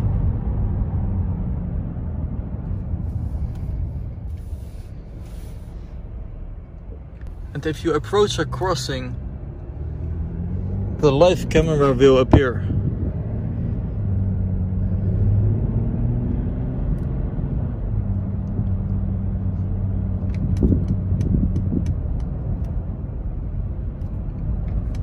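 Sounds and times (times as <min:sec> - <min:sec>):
diesel engine hum: 0:00.0 - 0:25.0
tyre and road noise: 0:00.0 - 0:25.0.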